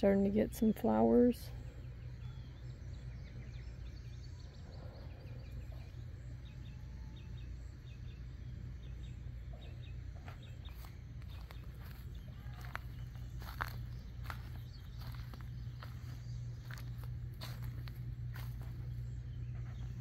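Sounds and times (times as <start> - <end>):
faint bird chirps: 0.5 - 20.0
low rumble: 1.4 - 20.0.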